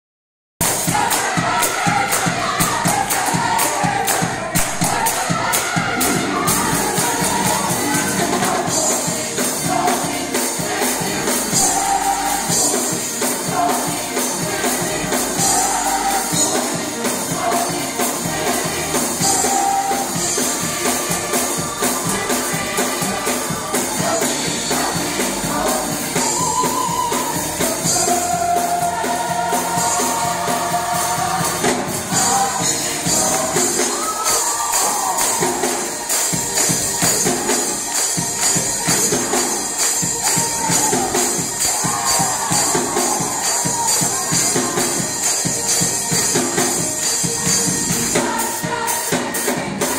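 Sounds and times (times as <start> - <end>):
drums: 0.6 - 49.9
gospel choir singing: 0.6 - 49.9
tambourine beat: 0.6 - 49.9.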